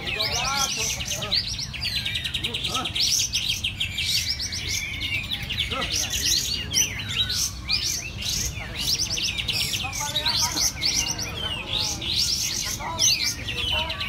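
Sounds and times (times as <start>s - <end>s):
songbirds chirping and whistling: 0.0s - 14.0s.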